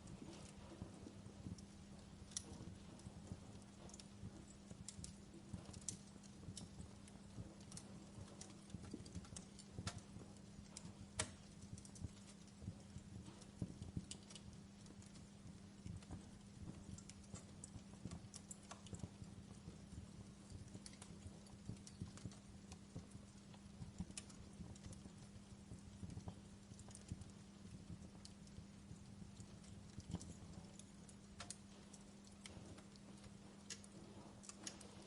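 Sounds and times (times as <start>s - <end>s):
faint low hum: 0.0s - 35.0s
wood fire crackling and popping: 0.0s - 35.0s.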